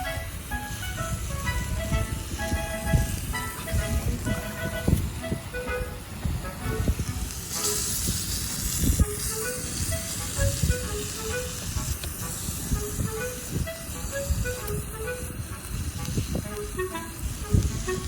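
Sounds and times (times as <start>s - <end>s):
light background music: 0.0s - 18.0s
wind buffeting microphone: 0.0s - 18.0s.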